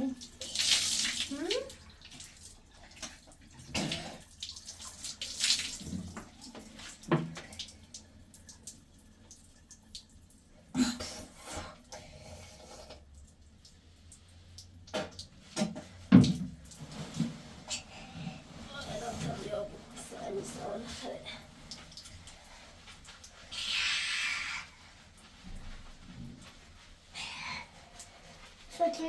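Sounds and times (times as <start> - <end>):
water pouring and splashing: 0.0 - 29.0.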